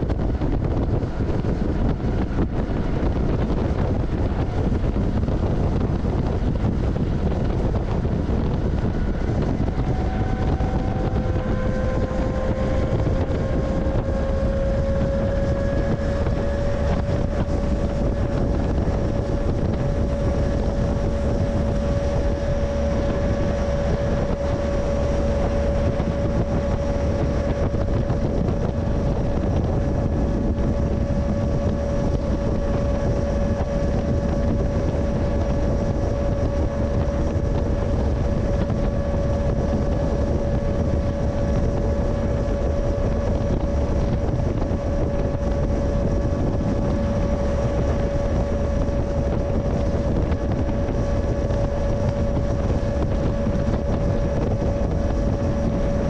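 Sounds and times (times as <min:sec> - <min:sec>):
steady whine: 0:00.0 - 0:56.0
train rumbling: 0:00.0 - 0:56.0
wind buffeting microphone: 0:00.0 - 0:56.0.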